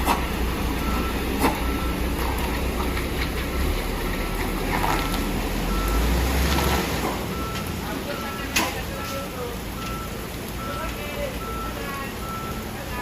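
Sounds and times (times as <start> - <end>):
heavy rain hiss: 0.0 - 13.0
truck engine low rumble: 0.0 - 13.0.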